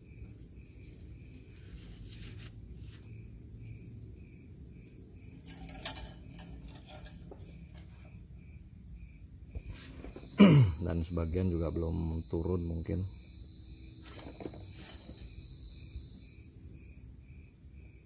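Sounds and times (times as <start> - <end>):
insect chirping: 0.0 - 18.0
low steady hum: 0.0 - 18.0.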